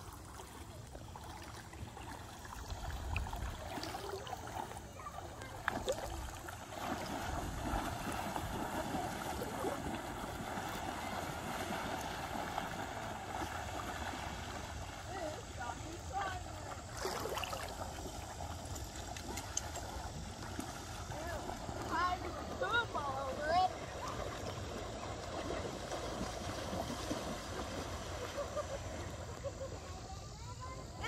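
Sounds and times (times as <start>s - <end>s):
lake water lapping: 0.0s - 31.0s.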